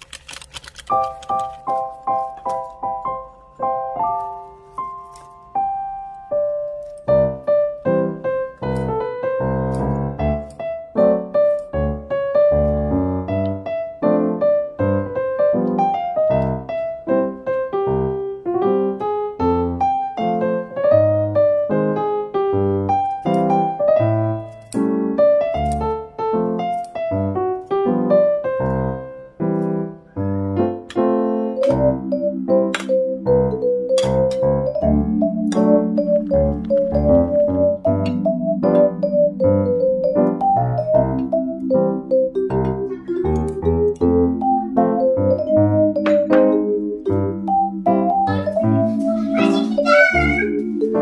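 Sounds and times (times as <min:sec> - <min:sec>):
piano tune: 0:00.0 - 0:51.0.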